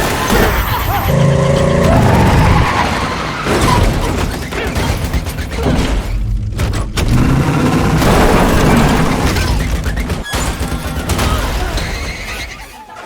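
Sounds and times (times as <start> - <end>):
car engines running hard: 0.0 - 11.3
tyres skidding: 0.0 - 12.9.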